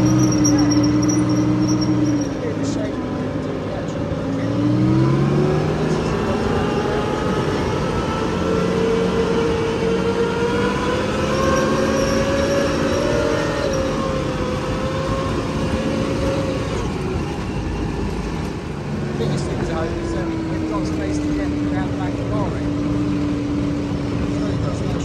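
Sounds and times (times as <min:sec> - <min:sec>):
tracked vehicle engine running: 0:00.0 - 0:25.0.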